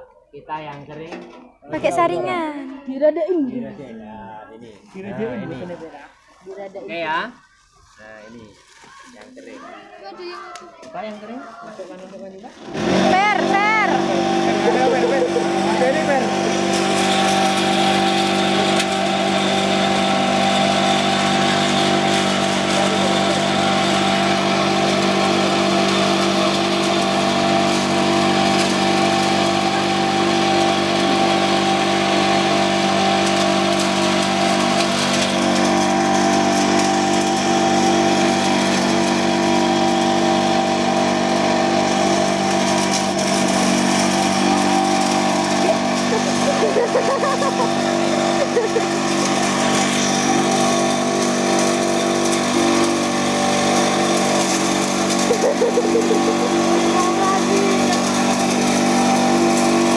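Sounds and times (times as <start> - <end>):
leaf shredder machine running: 0.5 - 59.9.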